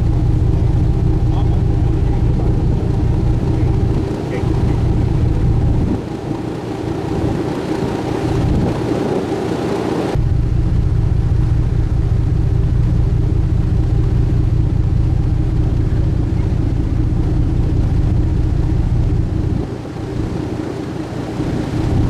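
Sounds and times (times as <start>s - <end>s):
boat engines droning: 0.0s - 22.0s
steady humming tones: 0.0s - 22.0s.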